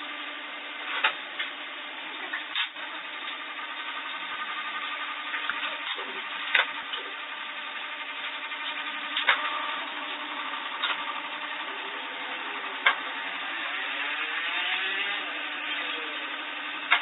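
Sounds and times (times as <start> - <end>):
small motor running: 1.8 - 17.0.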